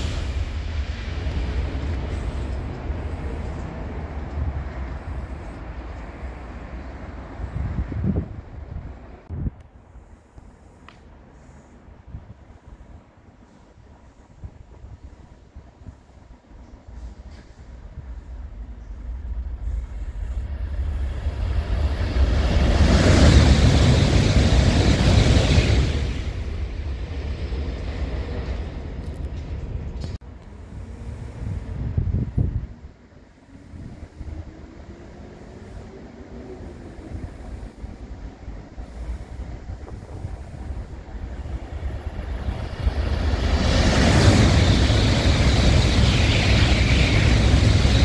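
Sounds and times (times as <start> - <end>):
train passing at speed: 0.0 - 48.0.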